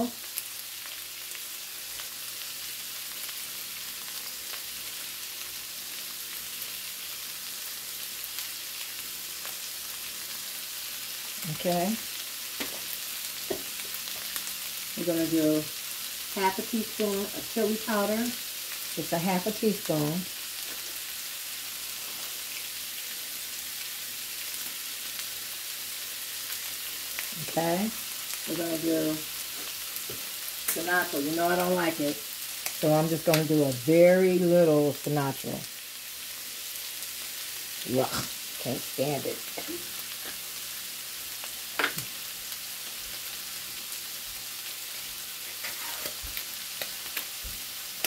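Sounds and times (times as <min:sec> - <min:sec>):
chicken sizzling in oil: 0:00.0 - 0:48.0.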